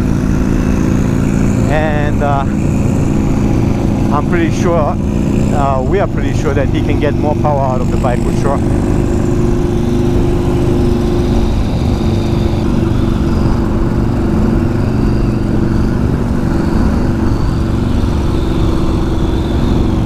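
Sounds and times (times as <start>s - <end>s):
motorcycle engine cruising: 0.0s - 20.0s
wind rushing over microphone: 0.0s - 20.0s.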